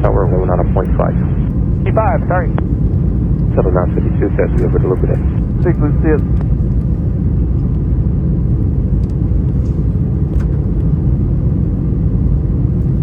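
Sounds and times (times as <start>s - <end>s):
airflow noise: 0.0s - 11.6s
airplane engine rumble: 0.0s - 13.0s
faint steady hum: 0.0s - 13.0s.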